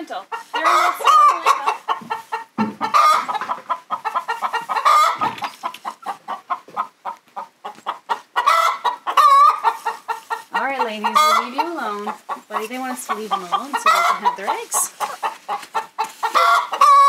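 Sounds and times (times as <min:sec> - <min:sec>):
hen clucking: 0:00.0 - 0:17.0.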